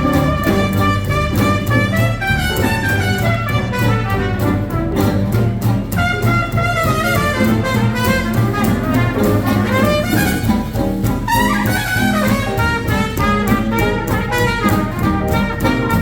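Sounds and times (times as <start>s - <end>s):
jazz band playing: 0.0s - 16.0s
trumpet lead line: 0.0s - 16.0s.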